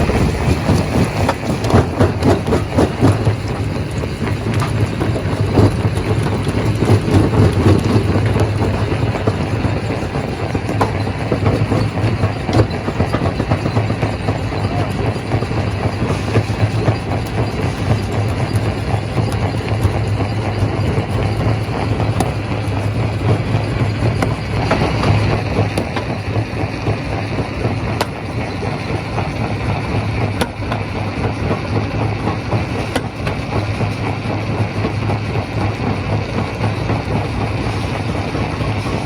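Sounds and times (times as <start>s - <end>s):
rock crusher grinding: 0.0s - 39.0s.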